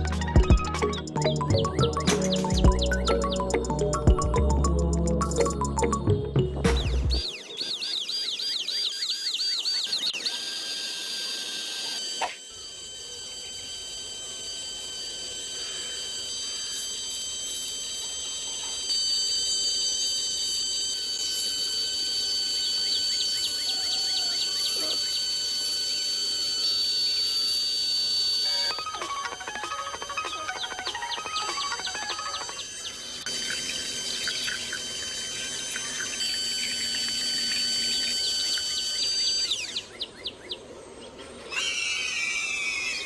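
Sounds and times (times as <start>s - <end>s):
small electric motor whining: 7.1s - 43.0s.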